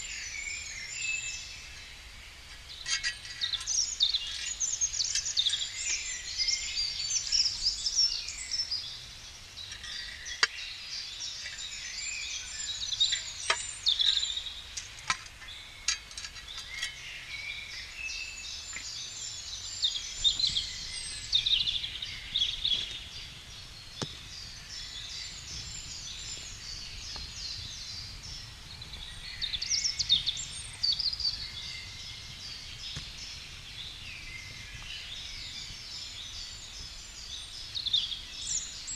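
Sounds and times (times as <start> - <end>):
low outdoor background: 0.0 - 38.9
songbirds chirping: 0.0 - 38.9.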